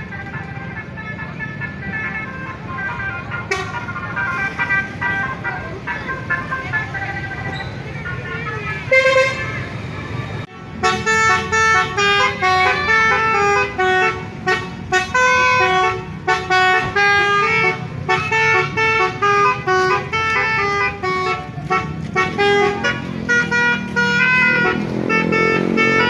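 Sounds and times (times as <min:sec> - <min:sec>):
multi-trumpet horn melody: 0:00.6 - 0:07.6, 0:08.8 - 0:09.6, 0:10.6 - 0:26.0.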